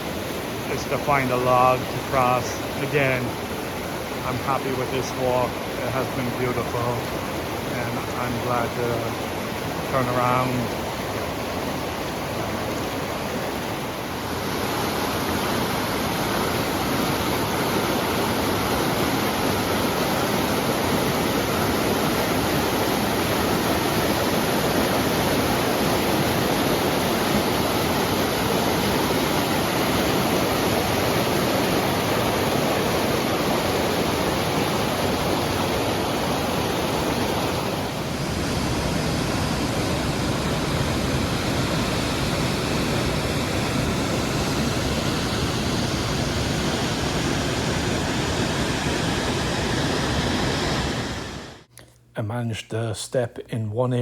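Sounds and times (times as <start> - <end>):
fast-flowing creek water: 0.0 - 50.2.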